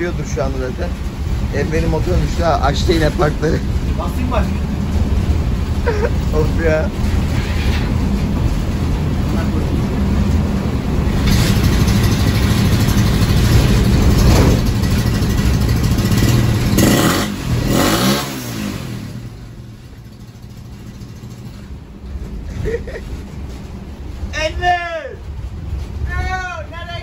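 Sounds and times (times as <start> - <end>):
motorcycle engine running: 0.0 - 22.2
road and wind noise: 0.0 - 27.0.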